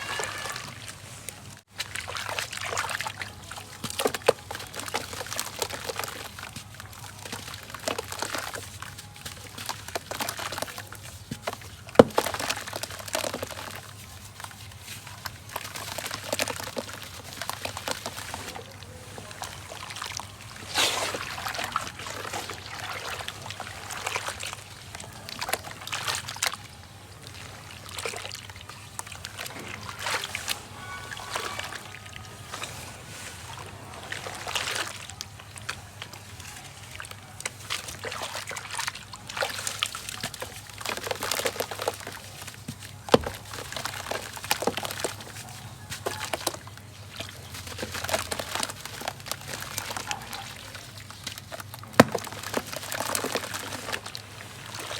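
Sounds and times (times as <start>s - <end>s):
water sloshing and trickling: 0.0s - 54.9s
wet sand crumbling in water: 0.0s - 54.9s.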